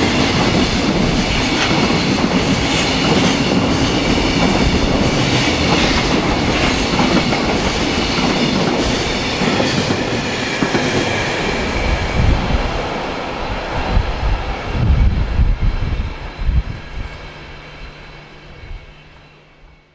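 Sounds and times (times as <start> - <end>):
freight train wheels rumbling on rails: 0.0 - 19.2.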